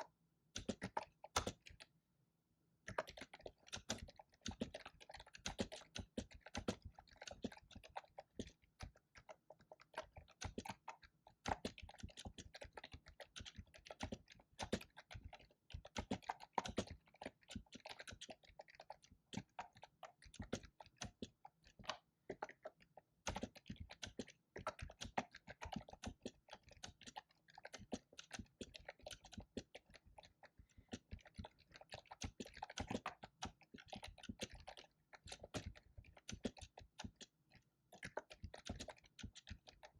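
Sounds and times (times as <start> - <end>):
fast typing on keyboard: 0.6 - 1.8, 2.9 - 39.9.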